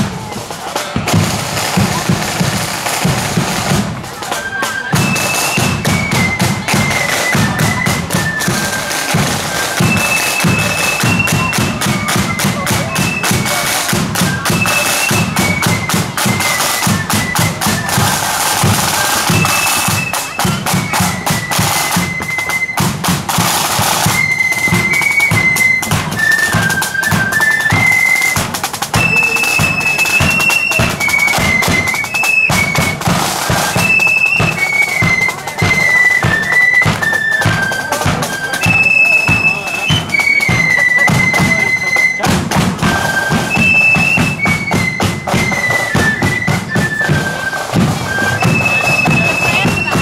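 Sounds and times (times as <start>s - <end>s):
bass drum march beat: 0.0s - 4.2s, 5.0s - 50.0s
flutes playing melody: 0.0s - 50.0s
side drums: 0.0s - 50.0s.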